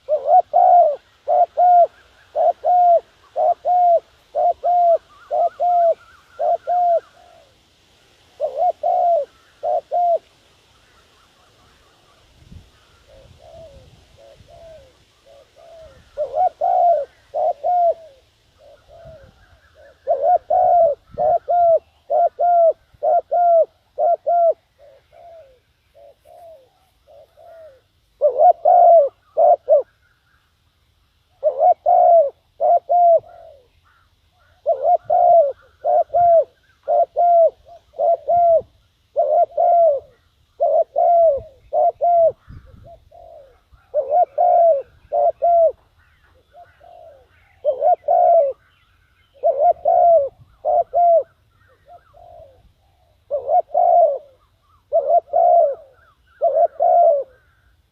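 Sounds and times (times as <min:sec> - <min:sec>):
dove cooing: 0:00.0 - 0:30.3, 0:31.2 - 0:57.9.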